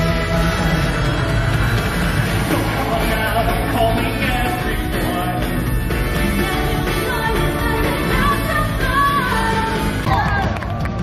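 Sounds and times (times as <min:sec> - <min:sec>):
rock soundtrack music: 0:00.0 - 0:11.0.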